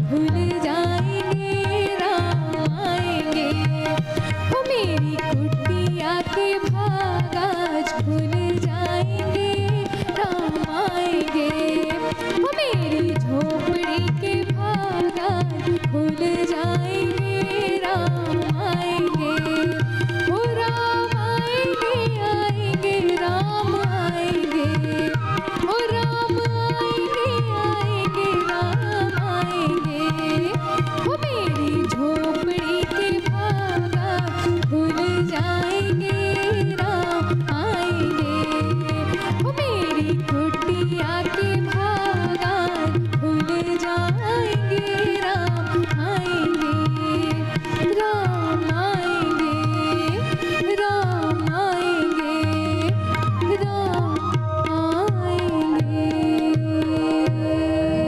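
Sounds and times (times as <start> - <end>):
tabla: 0.0 - 58.0
woman singing: 0.0 - 58.0.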